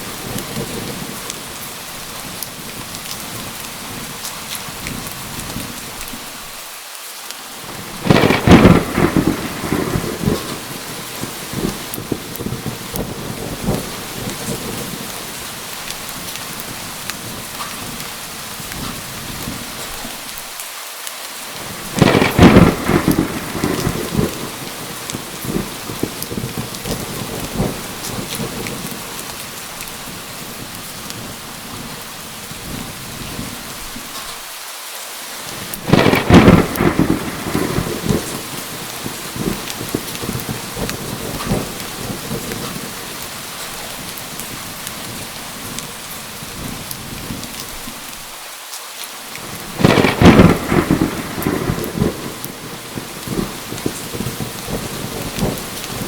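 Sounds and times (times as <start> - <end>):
heavy rain: 0.0 - 56.0
thunder claps rumbling: 0.1 - 1.6, 7.7 - 20.0, 21.6 - 34.1, 35.5 - 48.1, 49.4 - 56.0.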